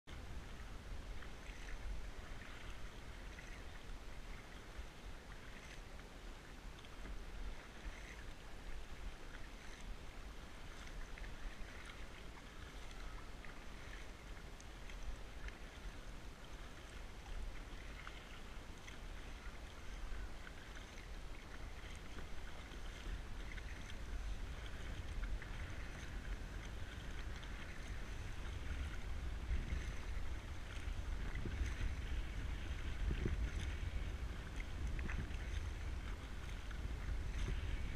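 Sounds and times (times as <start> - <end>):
paddle splashing in water: 0.1 - 37.9
wind rumble on microphone: 0.1 - 37.9.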